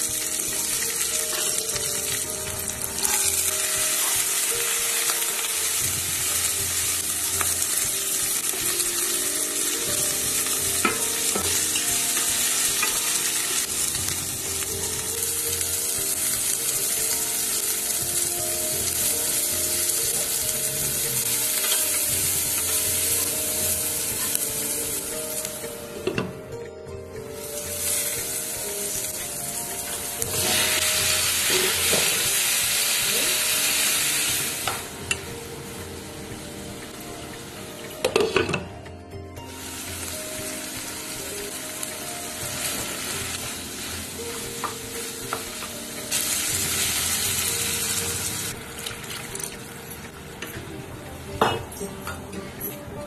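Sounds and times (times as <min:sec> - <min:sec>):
vegetables sizzling in a pan: 0:00.0 - 0:26.1, 0:27.3 - 0:38.6, 0:39.4 - 0:52.0
soft music: 0:00.0 - 0:53.0.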